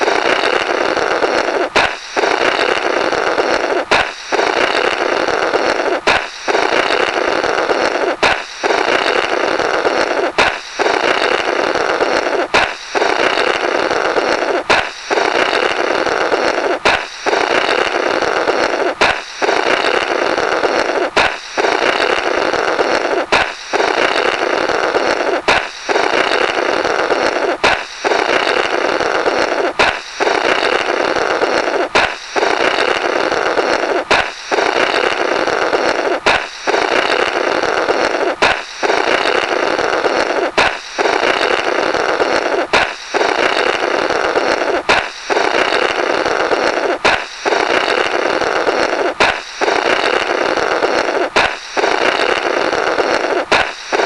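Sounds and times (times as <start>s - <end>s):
balloon pop: 0.0s - 5.0s, 5.8s - 7.2s, 7.8s - 37.3s, 37.9s - 54.0s
blowing through balloon rubber: 0.0s - 54.0s.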